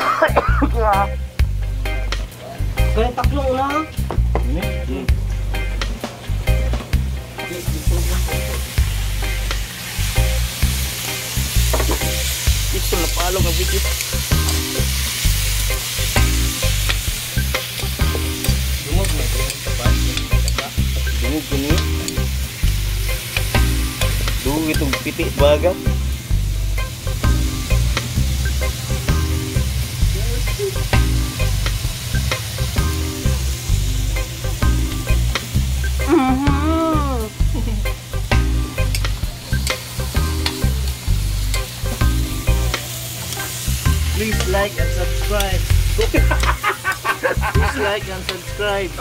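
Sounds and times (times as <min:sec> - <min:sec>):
snails sizzling in a wok: 0:07.3 - 0:49.0.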